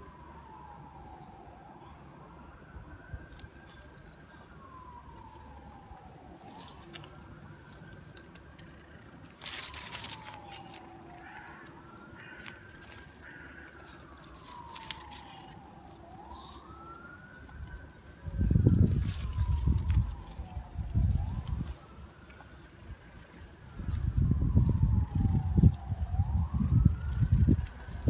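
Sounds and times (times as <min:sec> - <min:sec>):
faint emergency siren wailing: 0:00.0 - 0:28.0.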